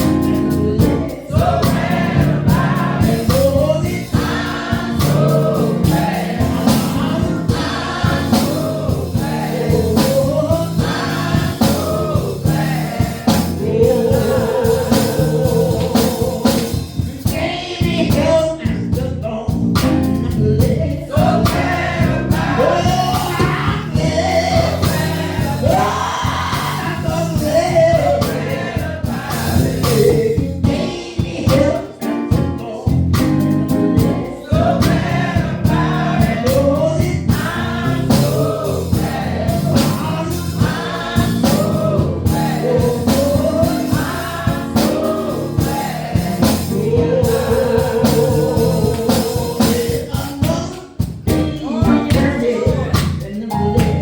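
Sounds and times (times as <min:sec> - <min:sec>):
percussion hits: 0:00.0 - 0:17.5, 0:21.2 - 0:54.0
church choir singing: 0:00.0 - 0:18.7, 0:20.2 - 0:54.0.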